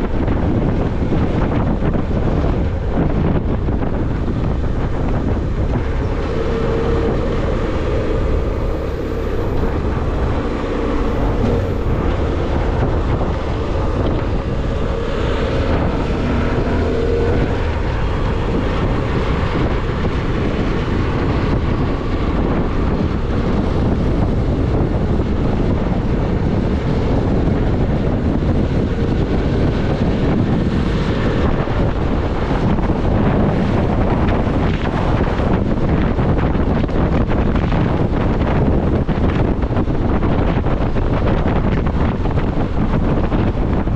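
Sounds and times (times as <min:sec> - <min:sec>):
motorcycle engine running: 0:00.0 - 0:43.9
wind rushing over microphone: 0:00.0 - 0:43.9.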